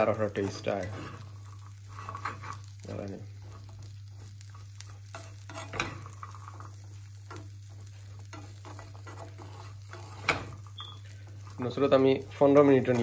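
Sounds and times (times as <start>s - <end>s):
faint frying sizzle: 0.0s - 13.0s
spatula scraping frying pan: 0.2s - 2.8s, 3.4s - 13.0s.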